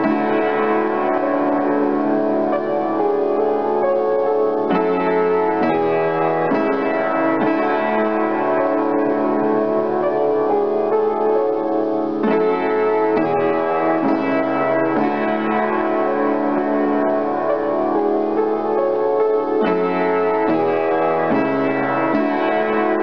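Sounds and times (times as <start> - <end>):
solo piano chords: 0.0 - 23.0.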